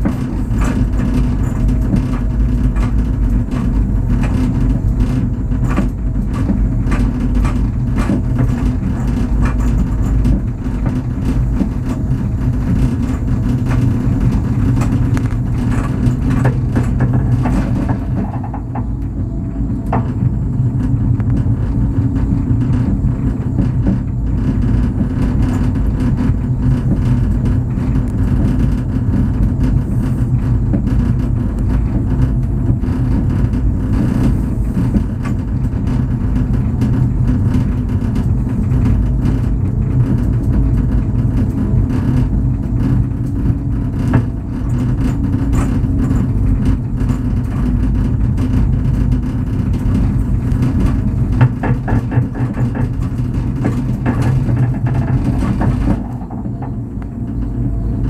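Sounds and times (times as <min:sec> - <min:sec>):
cable car cabin rumble: 0:00.0 - 0:58.0.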